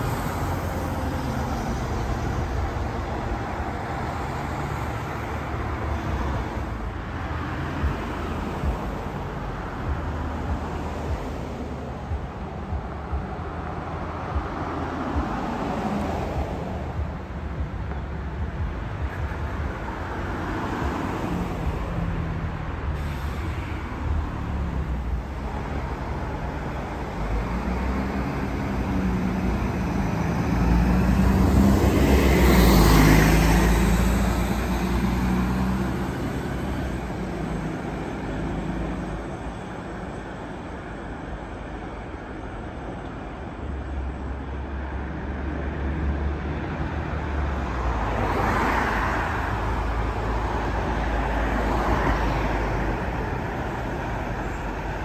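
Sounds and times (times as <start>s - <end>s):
bus driving past: 0.0s - 55.0s
light road traffic: 0.0s - 55.0s.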